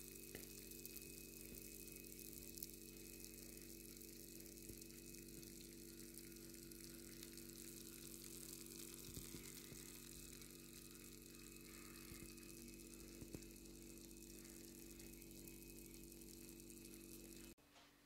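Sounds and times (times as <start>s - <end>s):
background hiss: 0.0s - 17.6s
faint electrical hum: 0.0s - 18.0s.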